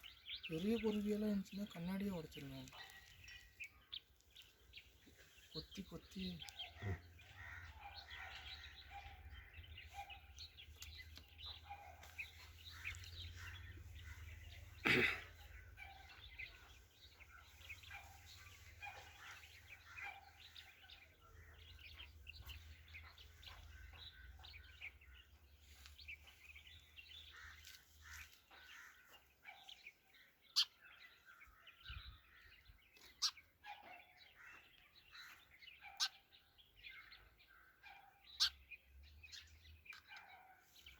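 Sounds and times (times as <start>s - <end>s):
sparrow chirping: 0.0s - 40.9s.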